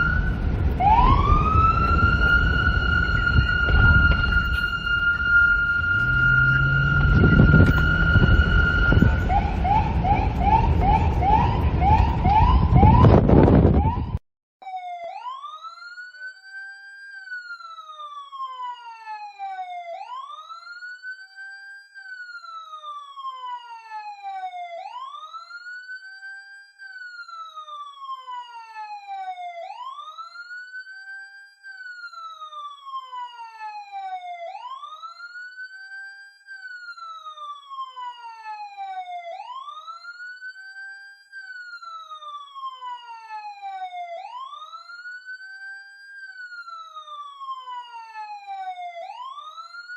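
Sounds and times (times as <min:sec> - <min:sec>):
police siren wailing: 0:00.0 - 0:49.9.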